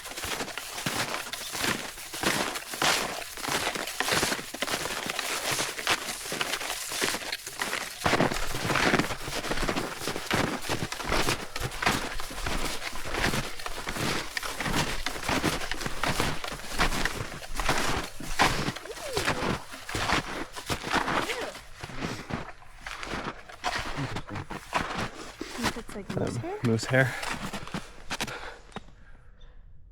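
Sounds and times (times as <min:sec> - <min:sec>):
footsteps crunching on snow: 0:00.0 - 0:28.4.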